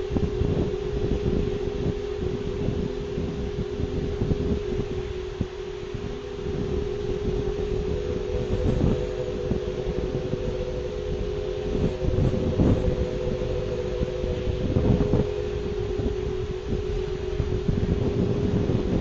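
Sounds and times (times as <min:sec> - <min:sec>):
droning two-tone hum: 0:00.0 - 0:19.0
wind buffeting microphone: 0:00.0 - 0:19.0.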